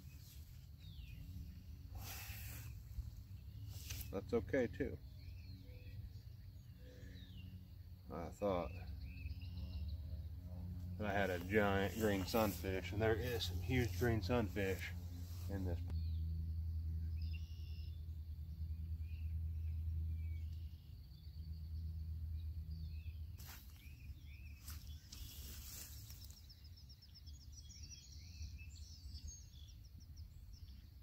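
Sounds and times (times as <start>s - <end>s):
low steady rumble: 0.0s - 27.5s
small birds chirping: 0.0s - 31.0s.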